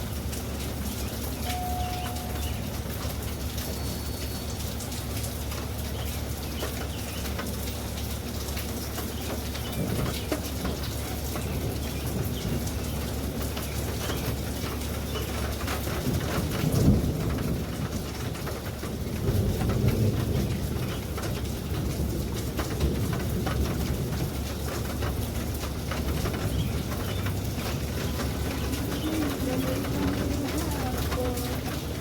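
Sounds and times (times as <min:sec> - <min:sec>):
drops ticking on a surface: 0:00.0 - 0:32.0
low rumble of thunder: 0:00.0 - 0:32.0
steady rain: 0:00.0 - 0:32.0.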